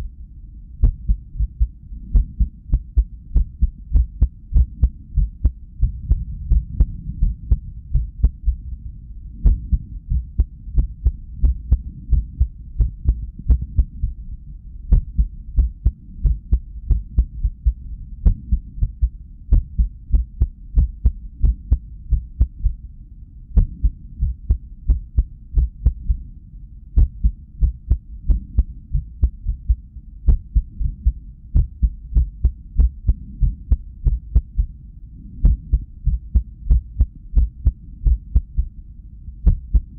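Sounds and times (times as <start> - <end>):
heartbeat thumps: 0.8 - 8.8, 9.4 - 14.2, 14.9 - 22.8, 23.6 - 26.2, 27.0 - 34.8, 35.4 - 38.8, 39.4 - 39.9.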